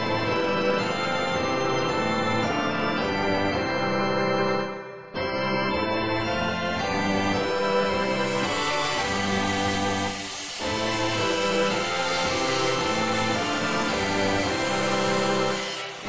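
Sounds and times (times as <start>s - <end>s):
organ-like keyboard chords: 0.0s - 15.7s.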